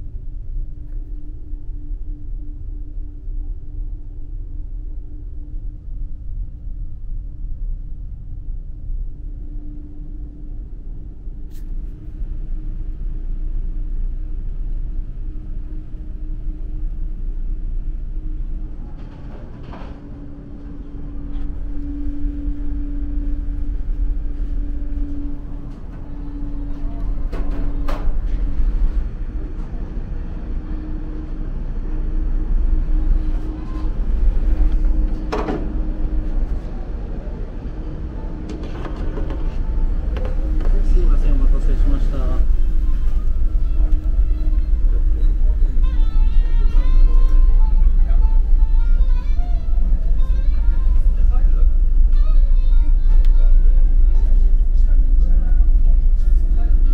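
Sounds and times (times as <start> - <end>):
faint steady hum: 0.0 - 56.9
ship engines rumbling: 9.6 - 56.9.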